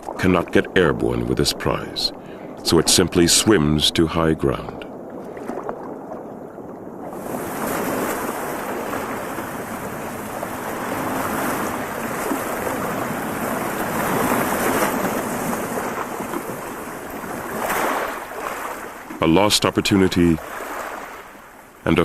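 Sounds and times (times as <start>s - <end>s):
water splashing and churning: 0.0s - 22.0s.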